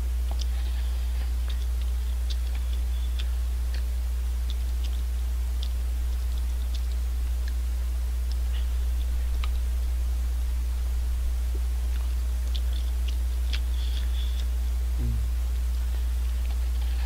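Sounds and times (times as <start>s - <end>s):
steady low hum: 0.0s - 17.0s
person chewing noodles: 0.1s - 10.4s, 11.0s - 17.0s.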